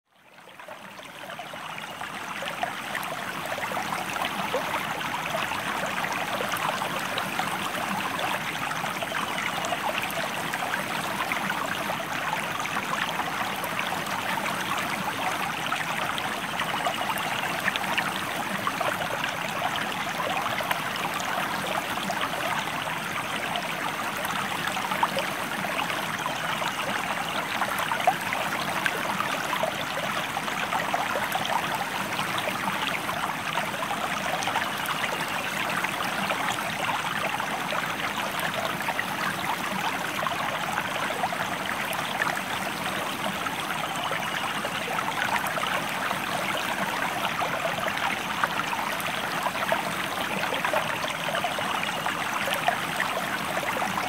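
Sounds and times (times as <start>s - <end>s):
river water running: 0.1s - 54.0s.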